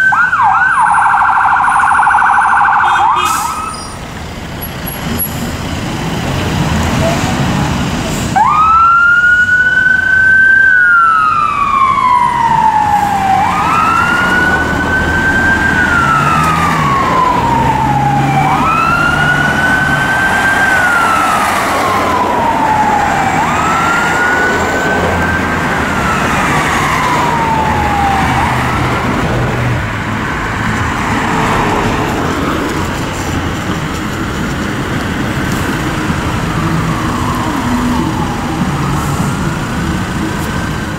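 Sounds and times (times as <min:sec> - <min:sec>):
fire engine wail siren: 0:00.0 - 0:04.1, 0:07.8 - 0:40.9
traffic noise: 0:00.0 - 0:40.9
truck engine: 0:00.0 - 0:40.9.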